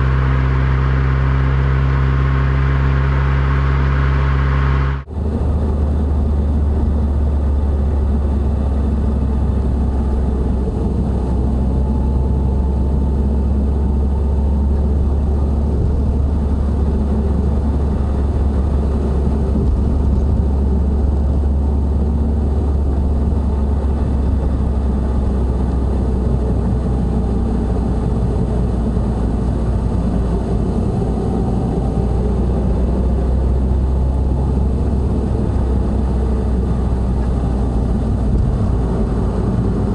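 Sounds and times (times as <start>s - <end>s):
low drone in car cabin: 0.0s - 39.9s
road noise: 0.0s - 39.9s.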